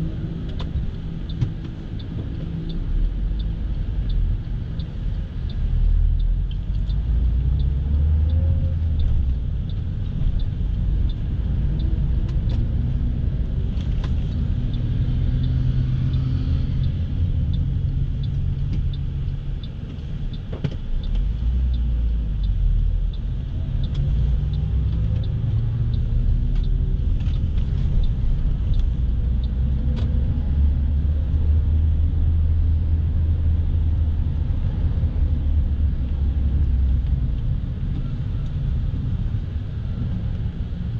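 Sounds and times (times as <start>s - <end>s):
vehicle engine and road rumble: 0.0s - 40.9s
faint light ticking: 0.2s - 40.5s.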